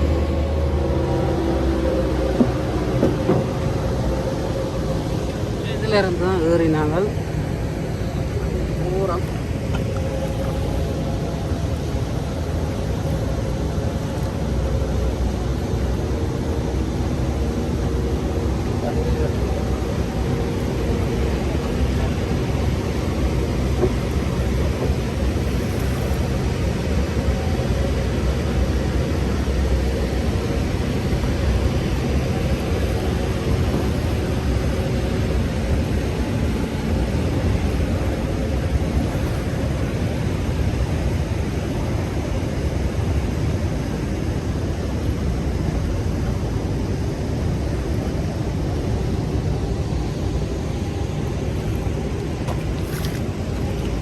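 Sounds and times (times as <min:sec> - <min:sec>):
boat engine running: 0:00.0 - 0:54.0
waterfall roaring: 0:00.0 - 0:54.0.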